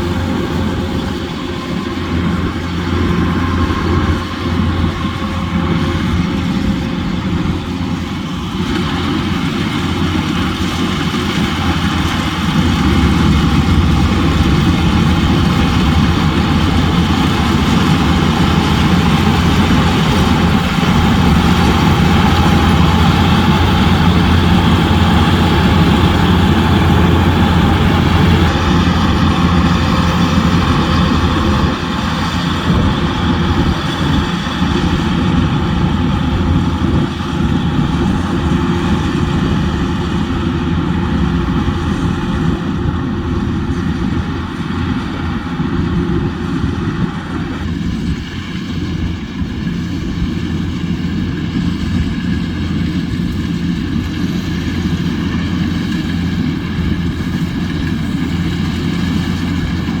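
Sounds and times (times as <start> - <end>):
combine harvester engine droning: 0.0 - 60.0.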